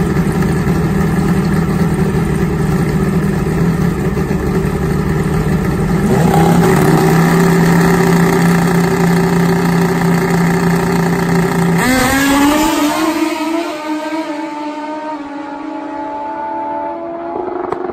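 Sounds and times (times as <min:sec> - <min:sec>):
drag bike engines revving: 0:00.0 - 0:17.9.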